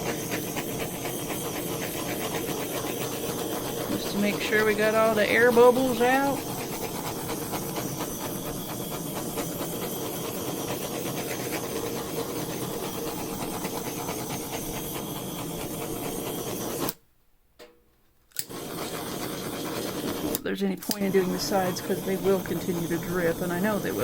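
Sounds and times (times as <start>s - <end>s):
torch flame hissing: 0.0s - 17.0s, 18.4s - 24.0s.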